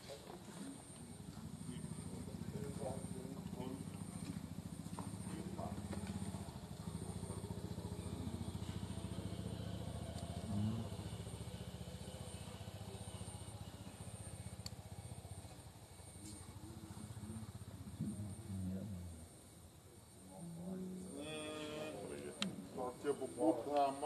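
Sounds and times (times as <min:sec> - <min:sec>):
small engine idling: 0:00.0 - 0:24.0.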